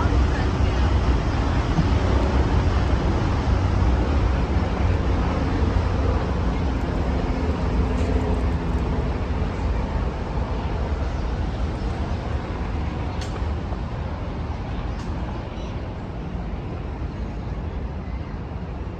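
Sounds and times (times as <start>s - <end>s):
low rumble of city traffic: 0.0s - 18.9s.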